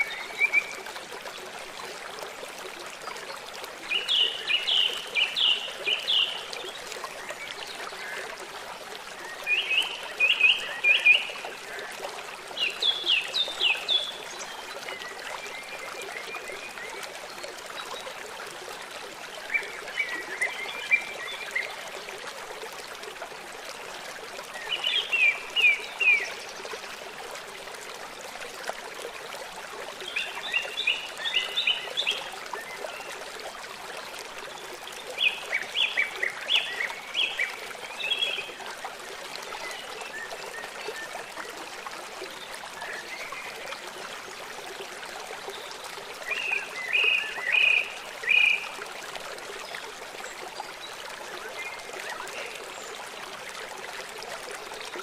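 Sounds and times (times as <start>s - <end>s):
river running: 0.0s - 55.0s.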